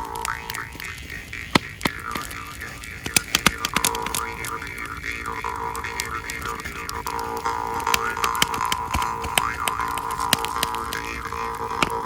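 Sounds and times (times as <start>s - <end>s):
jew's harp twanging: 0.0s - 12.0s
wood fire crackling and popping: 0.0s - 12.0s.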